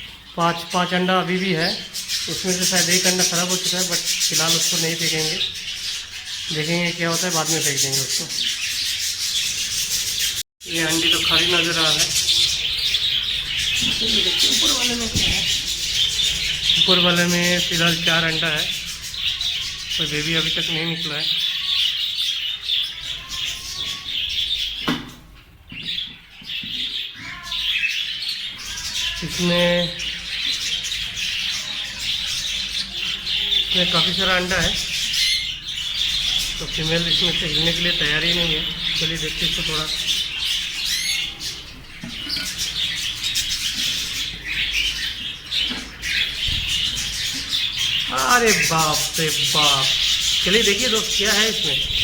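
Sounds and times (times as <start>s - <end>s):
budgerigars chattering and chirping: 0.0s - 52.0s.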